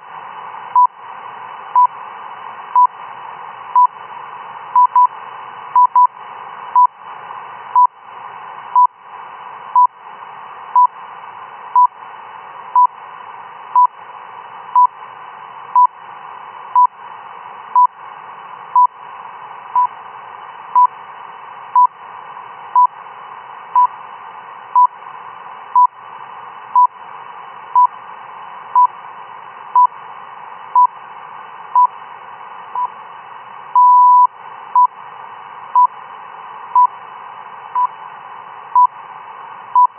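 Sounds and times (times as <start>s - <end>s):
receiver hiss: 0.0s - 39.9s.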